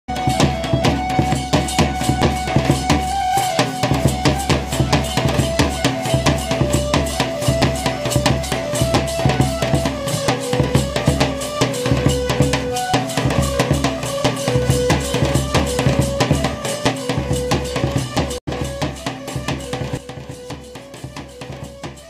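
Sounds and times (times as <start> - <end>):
held melody line: 0.1 - 22.0.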